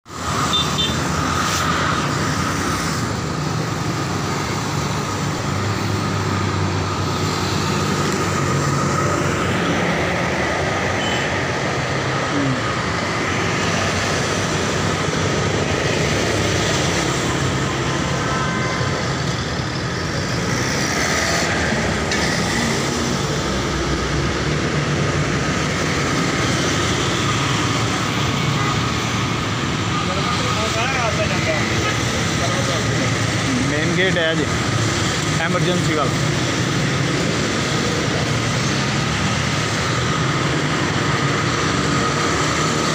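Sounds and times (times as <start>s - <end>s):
traffic driving past: 0.1s - 42.9s.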